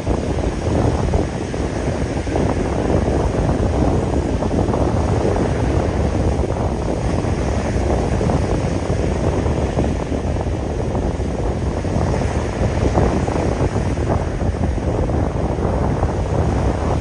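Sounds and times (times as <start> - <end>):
gentle surf: 0.0 - 17.0
wind buffeting microphone: 0.0 - 17.0.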